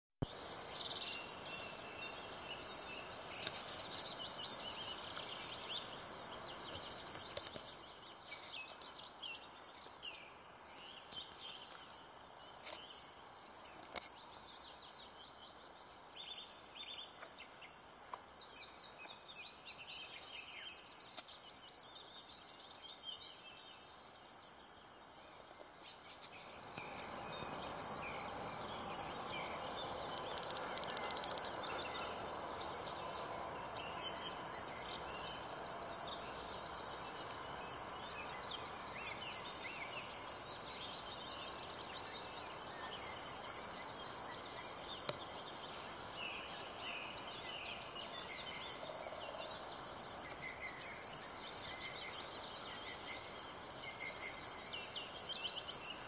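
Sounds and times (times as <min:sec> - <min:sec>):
faint outdoor hiss: 0:00.2 - 0:56.0
songbirds chirping and trilling: 0:00.2 - 0:56.0.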